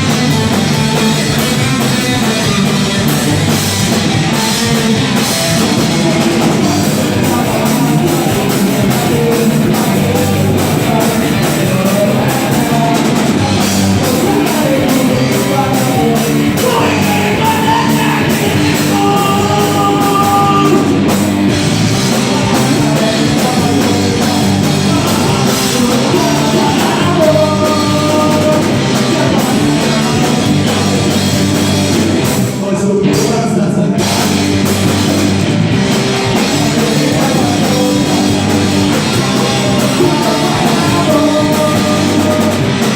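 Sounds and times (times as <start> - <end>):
person singing: 0.0 - 35.4, 36.0 - 42.9
drum kit: 0.0 - 42.9
live rock band: 0.0 - 42.9.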